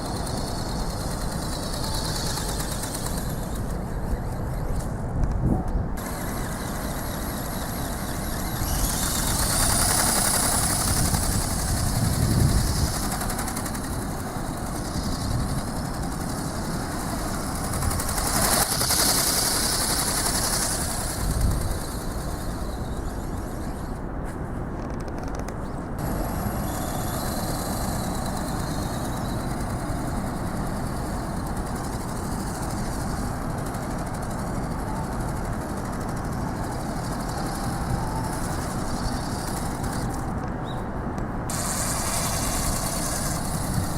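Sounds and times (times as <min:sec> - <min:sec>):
high wind hiss: 0:00.0 - 0:43.9
wind buffeting microphone: 0:00.0 - 0:43.9.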